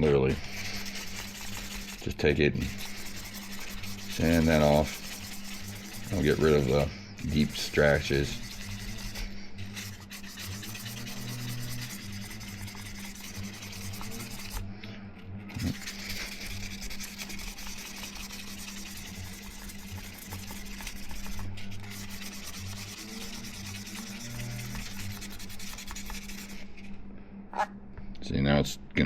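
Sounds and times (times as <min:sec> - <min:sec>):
sandpaper rubbing on plastic: 0:00.0 - 0:14.7, 0:15.4 - 0:27.0.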